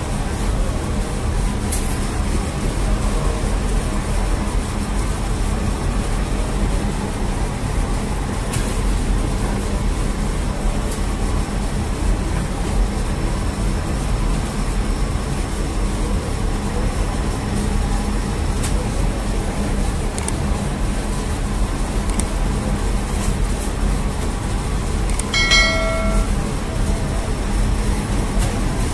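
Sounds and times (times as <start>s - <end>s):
bakery machinery humming: 0.0s - 28.9s.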